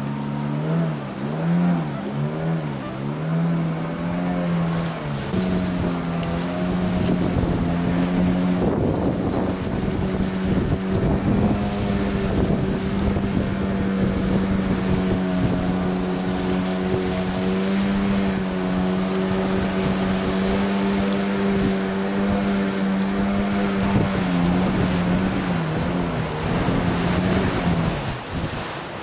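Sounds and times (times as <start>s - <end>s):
outboard motor running: 0.0s - 29.0s
water rushing past hull: 0.0s - 29.0s.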